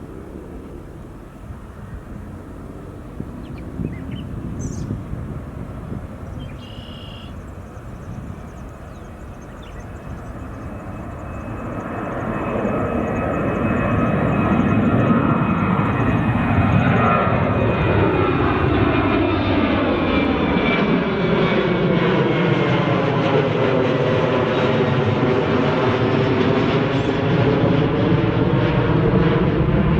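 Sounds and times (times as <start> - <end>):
jet engines roaring: 0.0 - 29.9.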